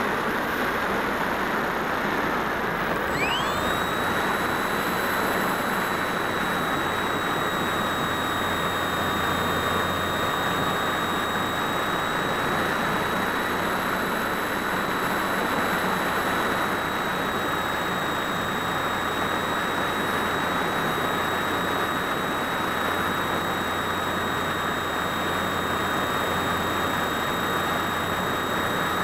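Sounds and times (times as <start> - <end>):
electric motor and propeller whine: 0.2 - 29.0.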